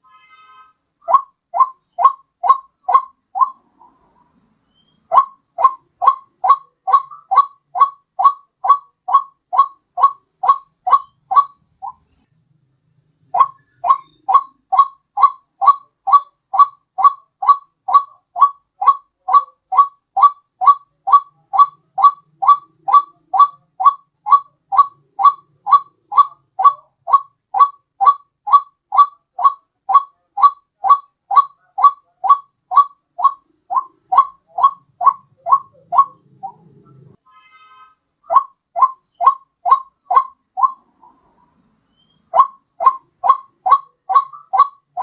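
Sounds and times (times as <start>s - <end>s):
waterhen calls: 1.0s - 4.1s, 4.7s - 12.3s, 13.3s - 37.2s, 38.2s - 45.0s.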